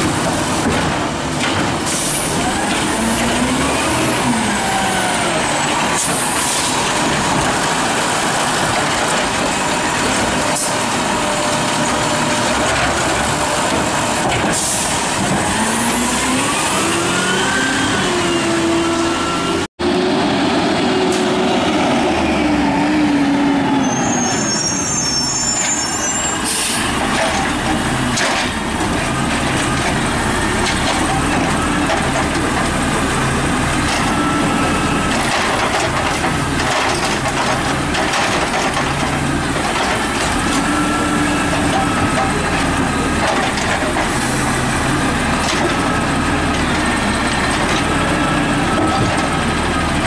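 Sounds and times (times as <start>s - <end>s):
garbage truck engine running: 0.0s - 23.8s, 25.6s - 50.0s.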